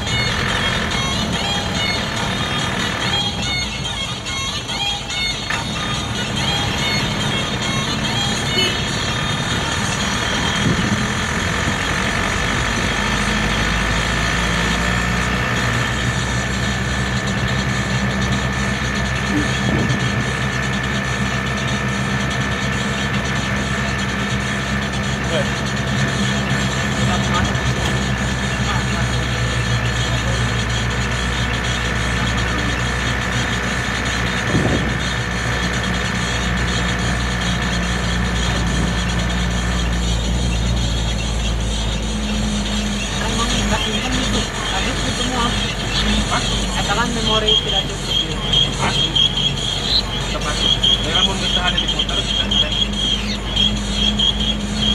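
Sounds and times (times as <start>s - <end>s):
high whine: 0.0s - 54.9s
road noise: 0.0s - 54.9s
truck engine running: 0.0s - 54.9s.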